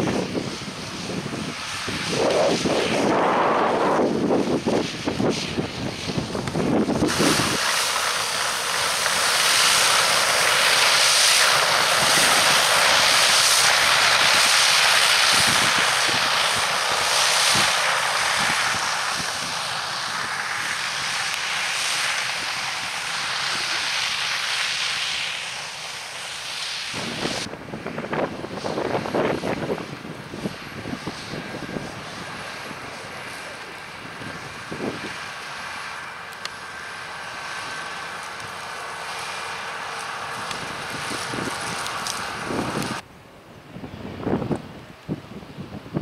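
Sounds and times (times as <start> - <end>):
muck spreader rushing hiss: 0.0 - 43.0.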